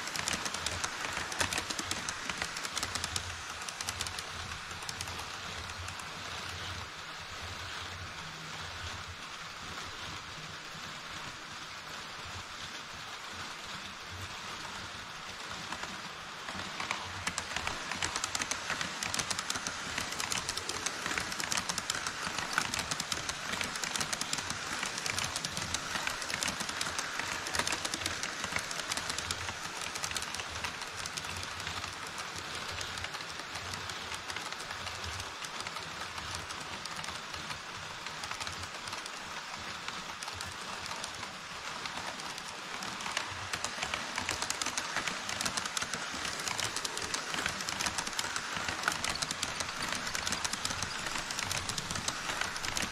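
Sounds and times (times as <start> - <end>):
model train wheels clattering: 0.0 - 8.0, 12.0 - 52.9.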